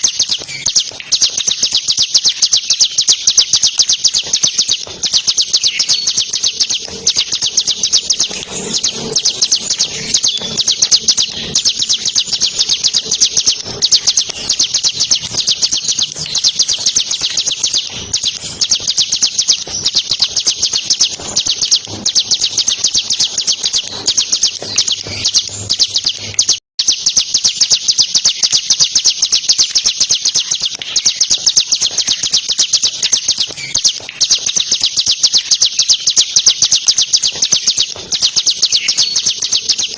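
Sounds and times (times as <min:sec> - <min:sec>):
bird singing fast trill: 0:00.0 - 0:39.9.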